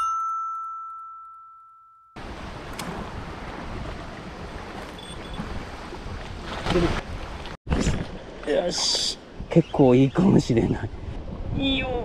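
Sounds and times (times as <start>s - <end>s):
wind: 0.0s - 12.0s
sea: 2.2s - 12.0s.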